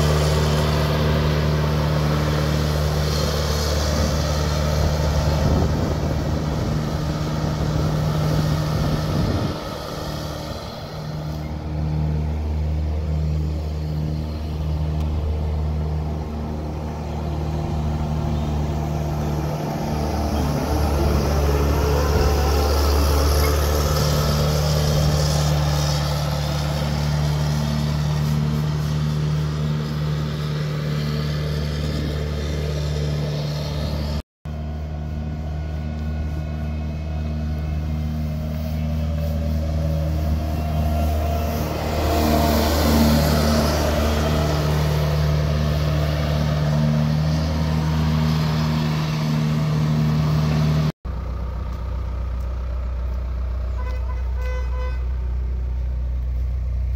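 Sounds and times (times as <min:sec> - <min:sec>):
street sweeper diesel engine: 0:00.0 - 0:56.9.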